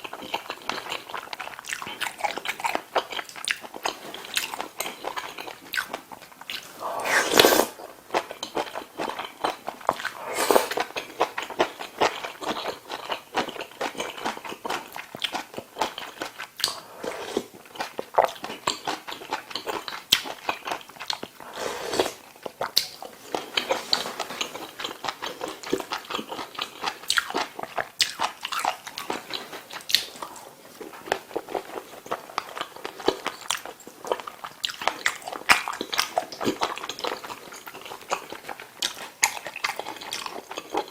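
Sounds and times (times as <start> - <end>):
person chewing food wetly: 0.0 - 40.9.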